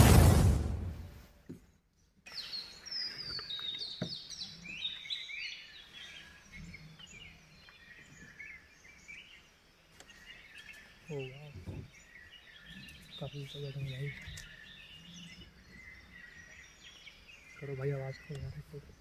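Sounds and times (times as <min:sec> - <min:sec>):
birds chirping and whistling: 0:02.3 - 0:19.0.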